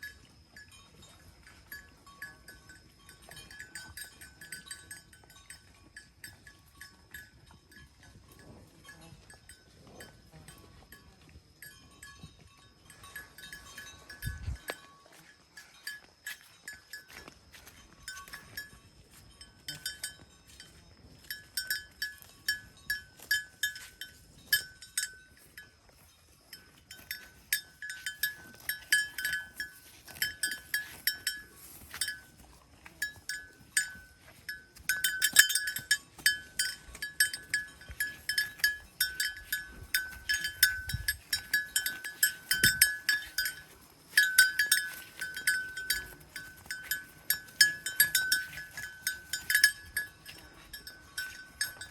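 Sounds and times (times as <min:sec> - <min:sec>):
livestock neck bells clinking: 0:00.0 - 0:51.9.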